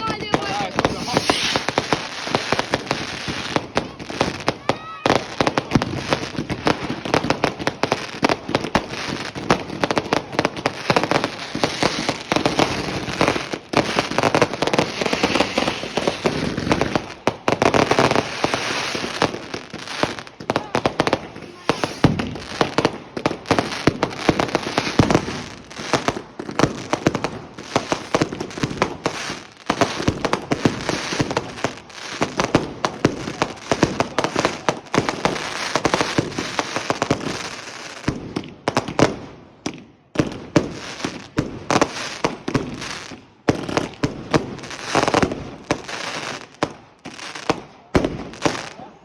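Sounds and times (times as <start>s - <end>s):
fireworks banging and crackling: 0.0s - 49.0s.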